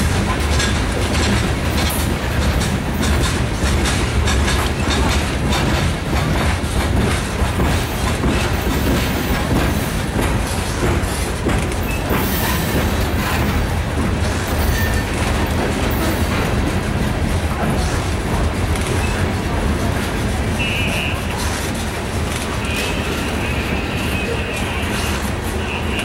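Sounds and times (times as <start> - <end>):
freight train rolling past: 0.0 - 26.0
wheels clacking over rail joints: 0.0 - 26.0.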